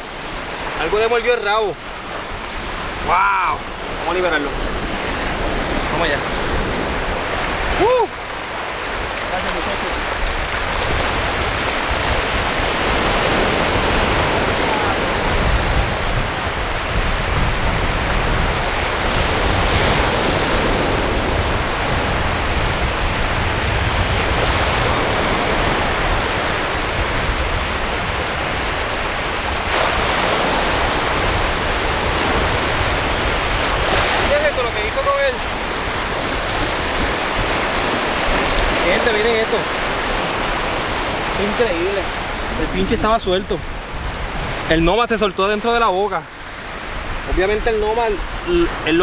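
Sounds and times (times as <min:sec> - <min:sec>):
small waves breaking on shore: 0:00.0 - 0:49.0.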